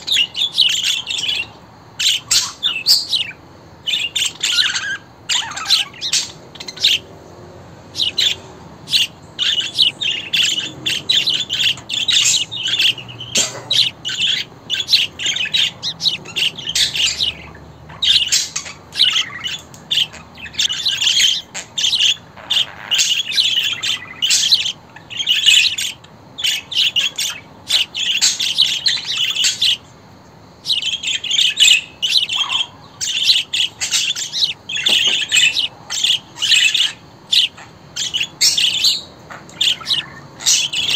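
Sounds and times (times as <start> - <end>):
budgerigars chirping: 0.0 - 7.2, 7.9 - 29.9, 30.6 - 40.9.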